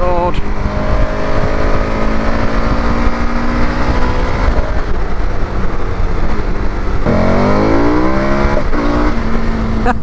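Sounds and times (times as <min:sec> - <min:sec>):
heavy wind rush: 0:00.0 - 0:10.0
motorcycle engine at speed: 0:00.0 - 0:10.0.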